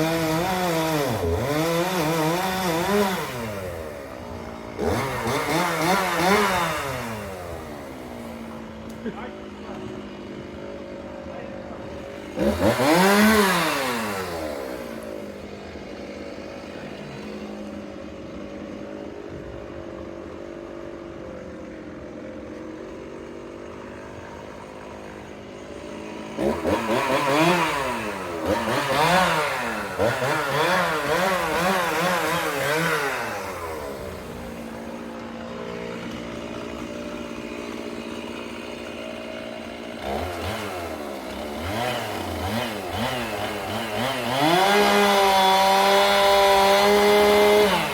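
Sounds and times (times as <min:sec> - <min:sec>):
chainsaw cutting tree: 0:00.0 - 0:47.9.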